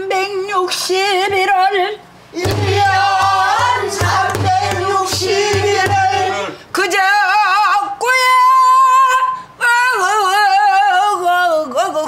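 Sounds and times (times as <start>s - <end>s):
woman singing with wavering vibrato: 0.0s - 2.0s, 2.8s - 12.0s.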